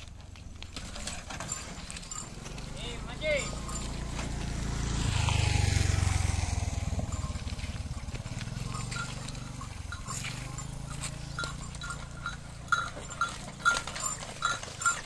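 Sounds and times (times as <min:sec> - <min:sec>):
motor scooter passing by: 0:00.8 - 0:15.0.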